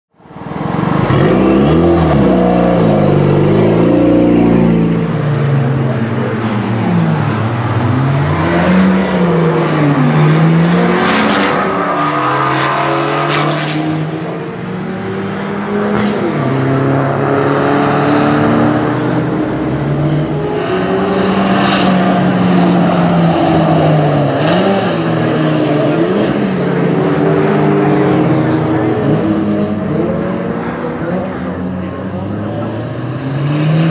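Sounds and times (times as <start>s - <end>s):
car engine revving hard: 0.8s - 33.9s.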